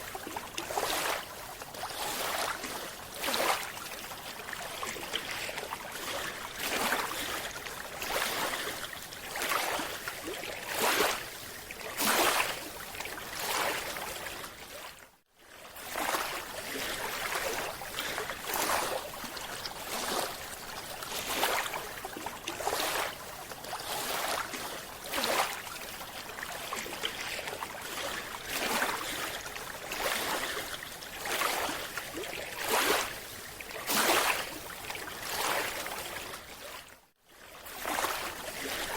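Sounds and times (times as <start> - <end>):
water sloshing and rushing: 0.0 - 38.9.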